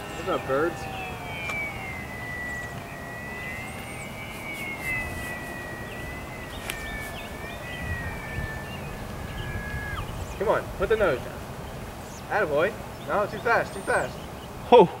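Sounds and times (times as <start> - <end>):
model plane motor whine: 0.0 - 14.6
wind rumble on microphone: 0.0 - 14.7.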